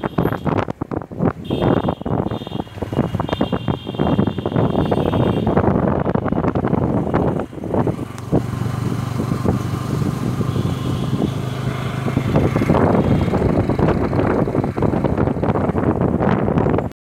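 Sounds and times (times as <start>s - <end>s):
wind rushing across microphone: 0.0s - 17.0s
motorcycle engine running: 1.8s - 16.1s.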